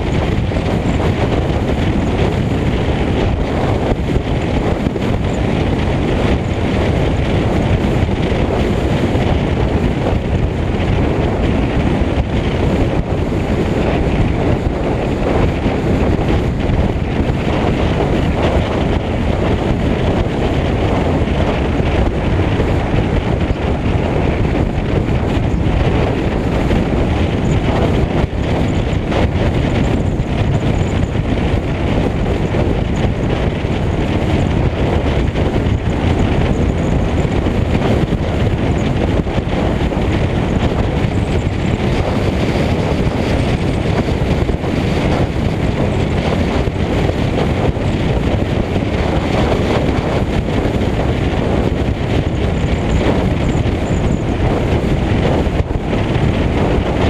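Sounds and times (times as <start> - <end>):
car road noise: 0.0 - 57.0
wind rushing on microphone: 0.0 - 57.0.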